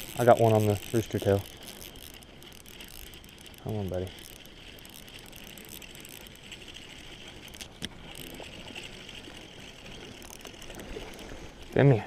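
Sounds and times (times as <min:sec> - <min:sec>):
fishing reel cranking: 0:00.0 - 0:12.0.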